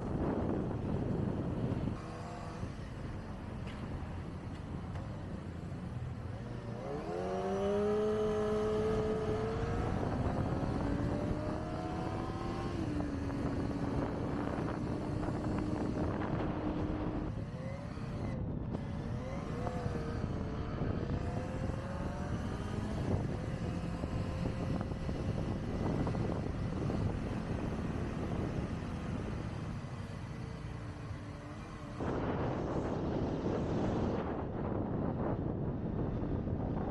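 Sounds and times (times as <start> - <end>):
motorcycle engine accelerating: 0.0 - 36.9
wind and road noise: 0.0 - 36.9.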